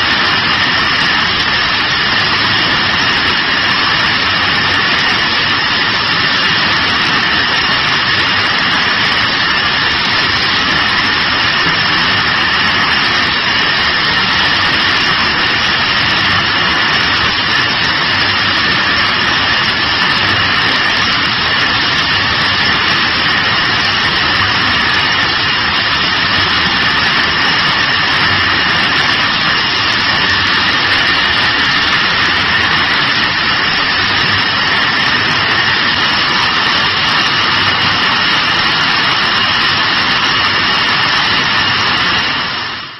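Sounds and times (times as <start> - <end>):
constant high whine: 0.0 - 42.9.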